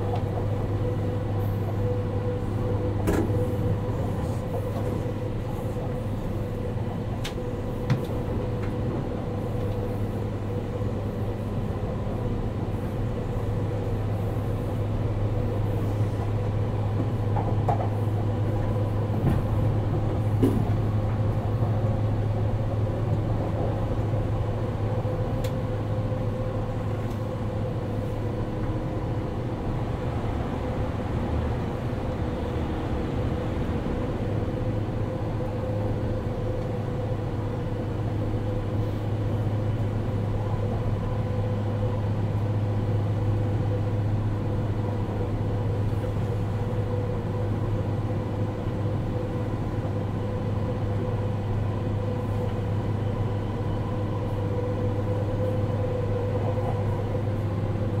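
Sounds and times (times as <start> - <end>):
electric train interior rumble: 0.0 - 58.0.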